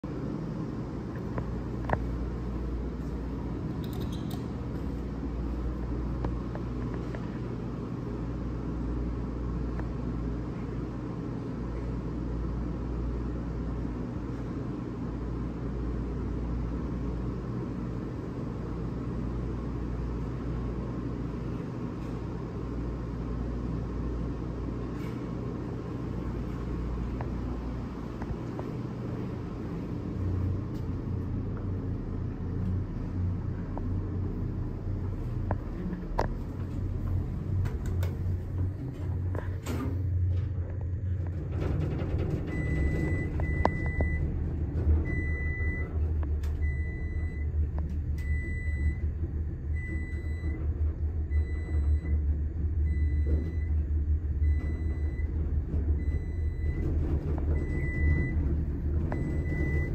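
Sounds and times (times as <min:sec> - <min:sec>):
low background rumble: 0:00.0 - 0:59.9.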